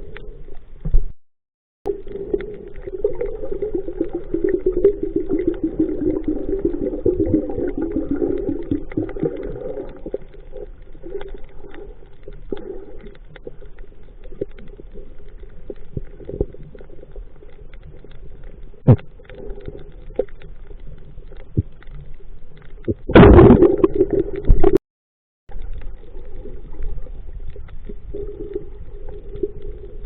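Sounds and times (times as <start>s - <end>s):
muffled churning water: 0.0s - 1.2s, 1.9s - 24.8s, 25.5s - 30.0s.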